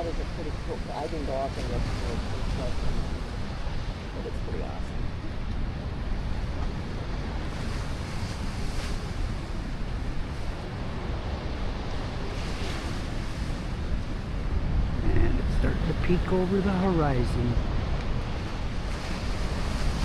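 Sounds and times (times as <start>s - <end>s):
surf washing against rocks: 0.0s - 20.0s.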